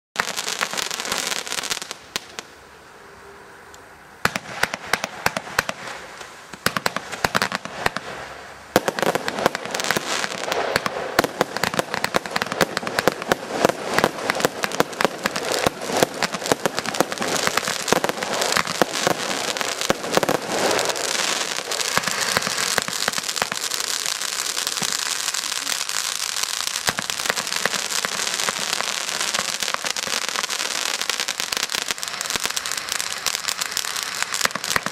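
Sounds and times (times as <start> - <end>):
fireworks cracking and crackling: 0.1 - 2.5, 4.2 - 34.9.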